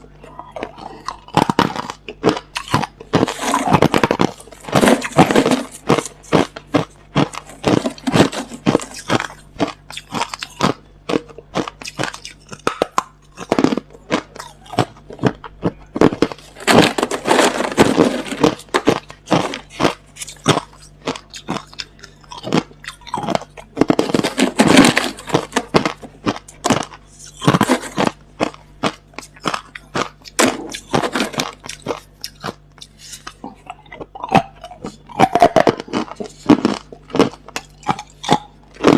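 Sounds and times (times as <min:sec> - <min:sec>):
crunching ice: 0:00.0 - 0:38.9.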